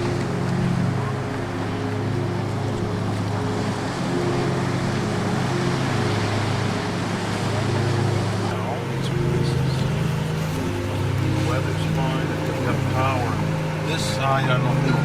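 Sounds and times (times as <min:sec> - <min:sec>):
car engine hum: 0:00.0 - 0:15.0
road and wind noise: 0:00.0 - 0:15.0.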